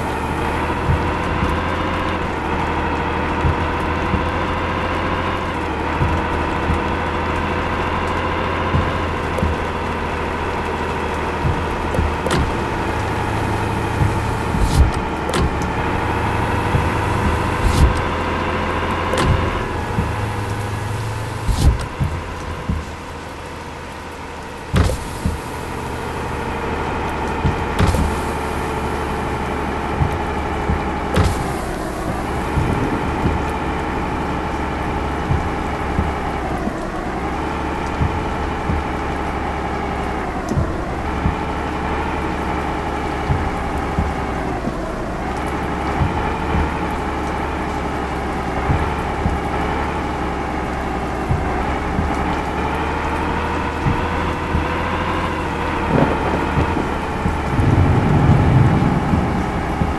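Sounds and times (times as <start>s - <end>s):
knocks and clatters from truck: 0.0s - 59.9s
road noise: 0.0s - 59.9s
short low thumps: 0.0s - 59.9s
truck engine droning: 0.0s - 59.9s.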